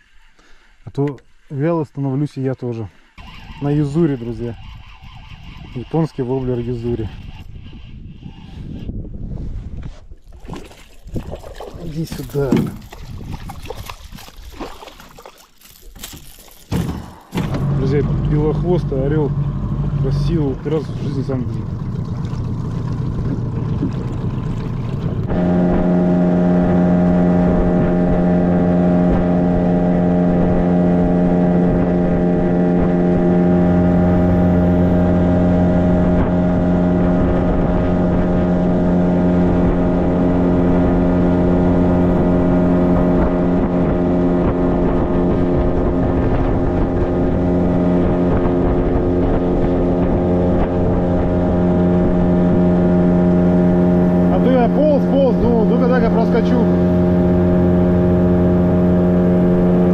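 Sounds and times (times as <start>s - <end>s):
outboard motor running: 3.0s - 7.8s, 10.3s - 59.9s.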